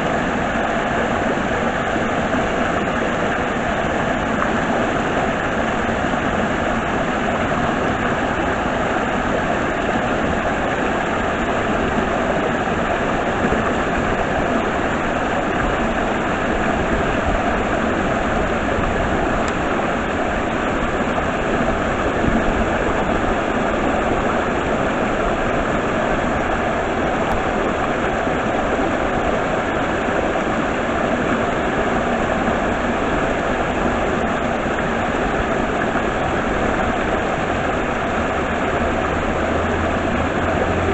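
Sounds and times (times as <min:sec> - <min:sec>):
stream rushing at waterfall: 0:00.0 - 0:40.9.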